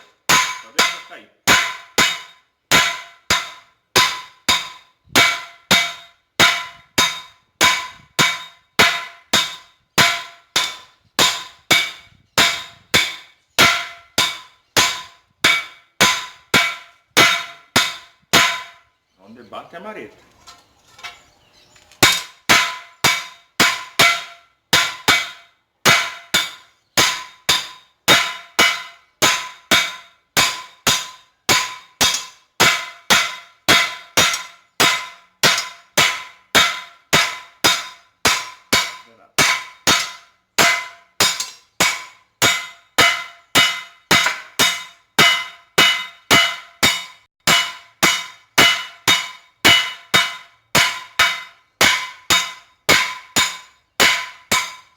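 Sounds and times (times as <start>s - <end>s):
hammer striking metal on anvil: 0.0s - 18.8s, 22.0s - 54.9s.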